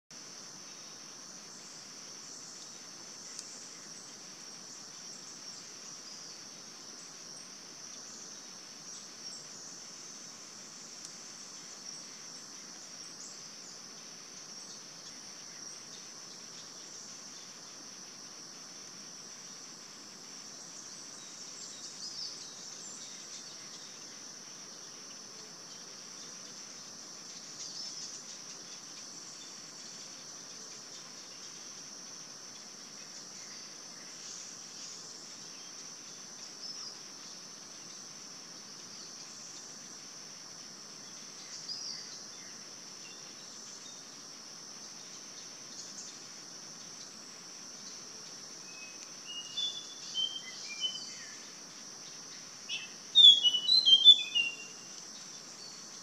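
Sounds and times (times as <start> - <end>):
insect chirps: 0.1 - 56.0
insect chorus drone: 0.1 - 56.0.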